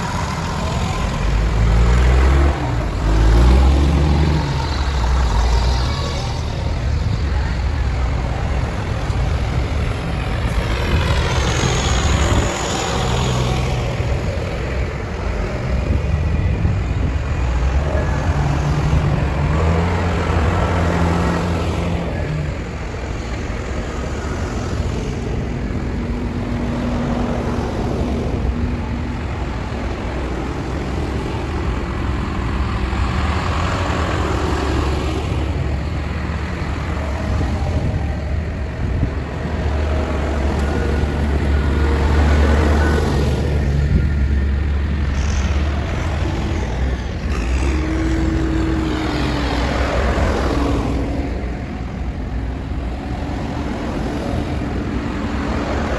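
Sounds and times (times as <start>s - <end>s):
tractor engines passing: 0.0s - 55.9s.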